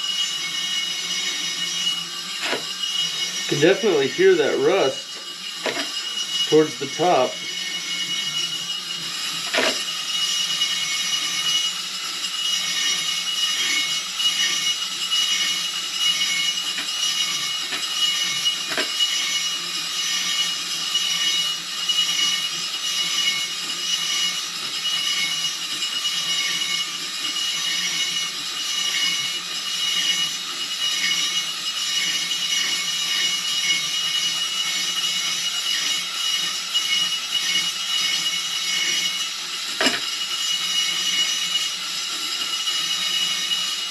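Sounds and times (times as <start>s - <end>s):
cylinder hone grinding rasp: 0.0s - 43.9s.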